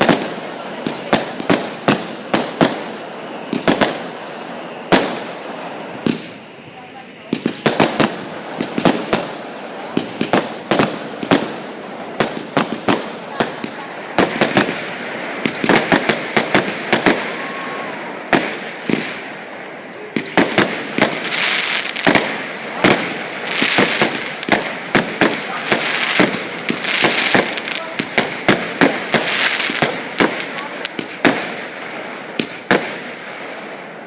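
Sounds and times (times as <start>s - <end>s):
fireworks bangs: 0.0s - 34.0s
fireworks crackle and hiss: 0.0s - 34.0s.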